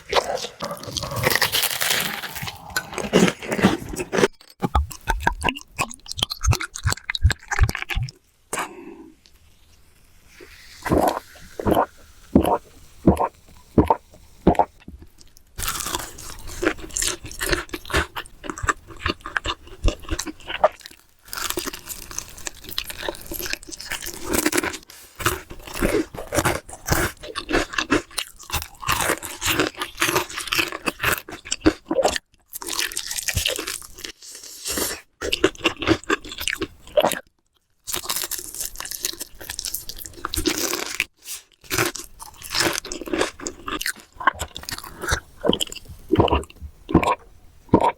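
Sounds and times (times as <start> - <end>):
crunchy fried chicken chewing: 0.0 - 8.2, 10.9 - 47.9.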